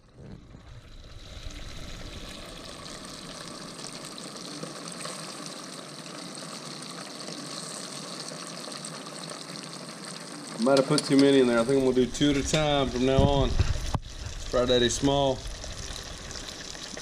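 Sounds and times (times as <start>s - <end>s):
fish sizzling in deep fryer: 0.0s - 17.0s.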